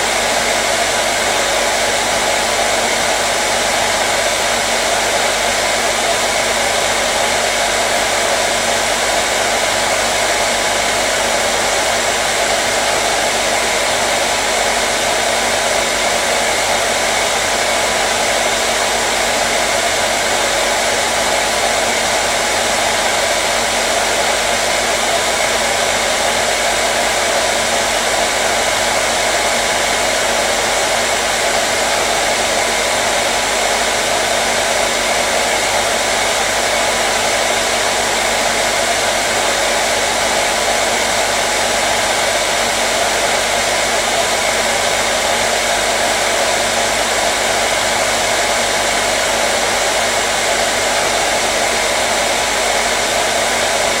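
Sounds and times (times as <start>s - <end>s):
hair dryer blowing air: 0.0s - 54.0s.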